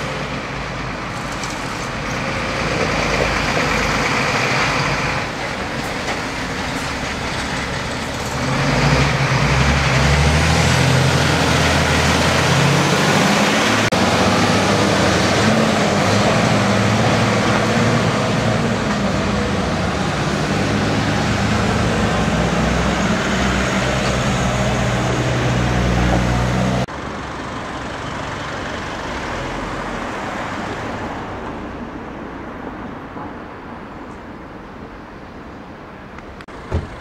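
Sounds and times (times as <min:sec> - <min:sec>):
diesel truck driving past: 0:00.0 - 0:32.0
street traffic: 0:00.0 - 0:37.0.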